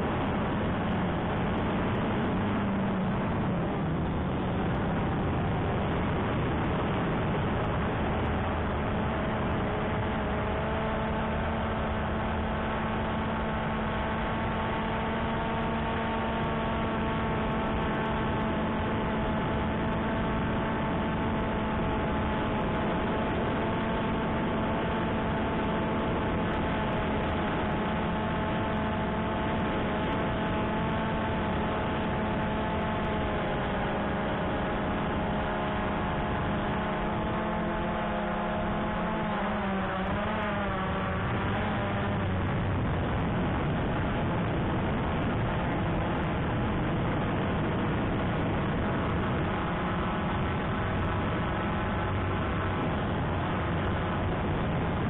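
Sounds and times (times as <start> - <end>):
drone motors humming: 0.0 - 55.0.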